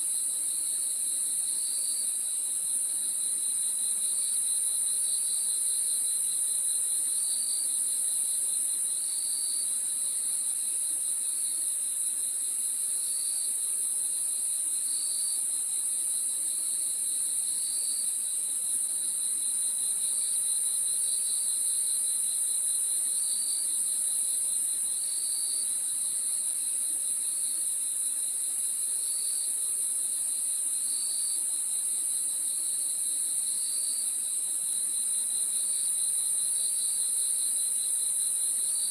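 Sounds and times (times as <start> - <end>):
high-pitched cricket trill: 0.0 - 38.9.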